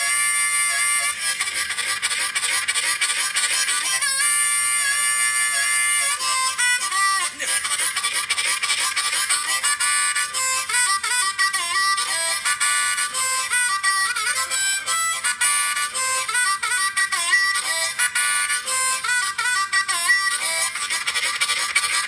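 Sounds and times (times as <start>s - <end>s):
harmonica playing fast tune: 0.0s - 22.0s.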